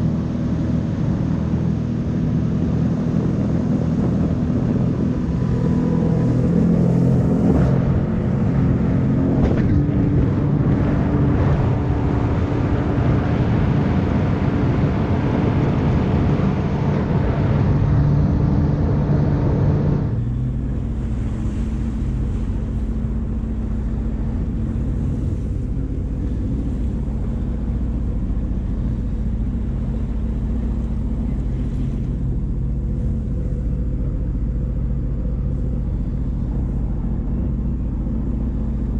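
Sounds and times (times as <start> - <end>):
jet ski engine: 0.0 - 38.9
water rushing past hull: 0.0 - 38.9.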